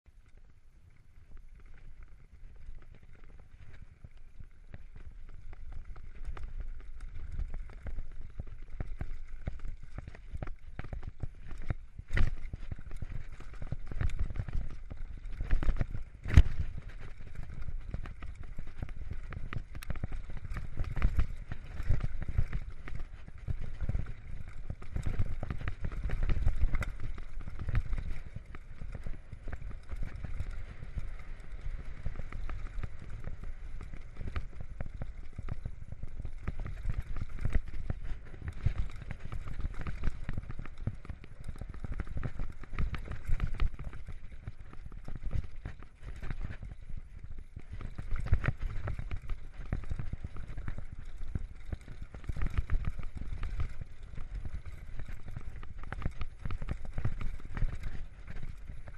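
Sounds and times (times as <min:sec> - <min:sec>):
mountain bike rattling over rocks: 0:00.1 - 0:58.9
wind on microphone: 0:06.0 - 0:58.9.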